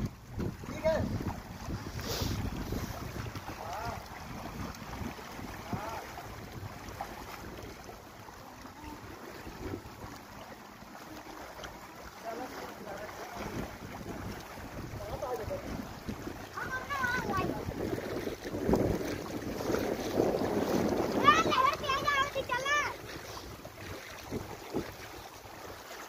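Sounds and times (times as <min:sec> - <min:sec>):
wind buffeting microphone: 0:00.0 - 0:10.2, 0:12.8 - 0:25.8
water lapping: 0:00.0 - 0:26.0.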